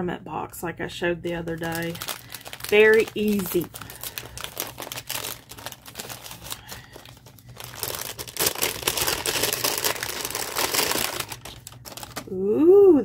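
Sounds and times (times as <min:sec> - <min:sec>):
paper envelope crinkling: 0:01.3 - 0:12.3.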